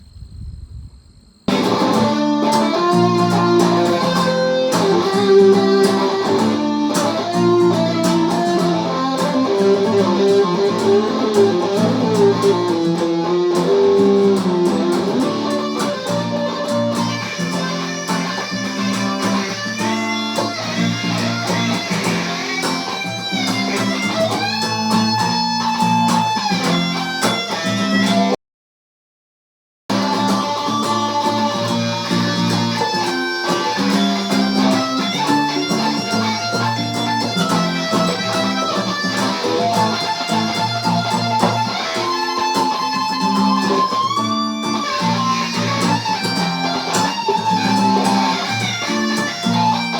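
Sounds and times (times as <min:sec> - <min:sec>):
guitar chord pattern: 0:01.5 - 0:28.4, 0:29.9 - 0:49.9
plucked guitar melody: 0:01.5 - 0:28.4, 0:29.9 - 0:49.9.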